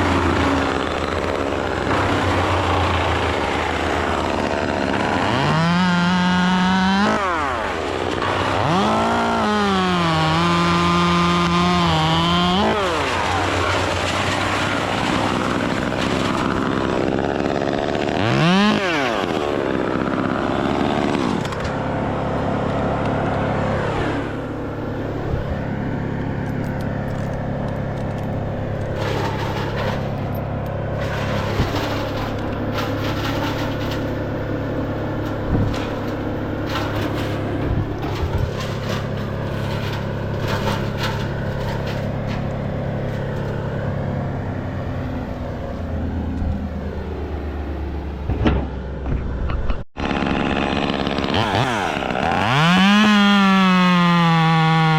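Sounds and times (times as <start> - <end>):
chainsaw revving: 0.0 - 44.8, 50.0 - 54.9.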